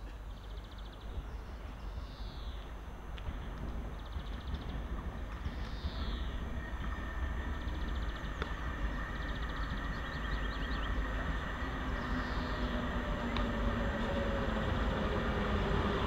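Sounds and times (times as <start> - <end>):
electric train rumble: 0.0 - 16.0
low whine: 0.0 - 16.0.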